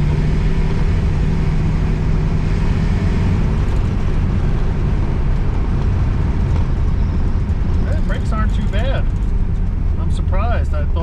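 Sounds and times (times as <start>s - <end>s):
low engine hum: 0.0s - 11.0s
road and wind noise: 0.0s - 11.0s.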